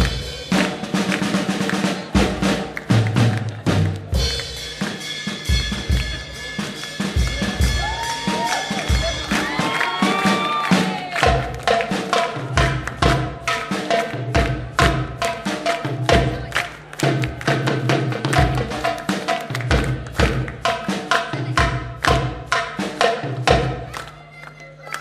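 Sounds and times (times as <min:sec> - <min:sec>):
drum kit beat: 0:00.0 - 0:25.0.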